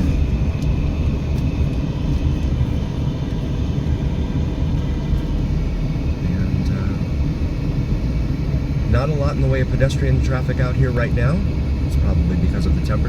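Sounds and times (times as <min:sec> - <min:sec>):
car engine and tyres drone: 0:00.0 - 0:13.0.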